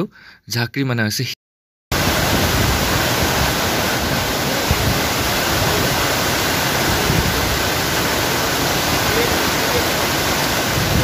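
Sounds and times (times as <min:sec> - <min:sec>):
waterfall rushing: 0:02.0 - 0:11.0.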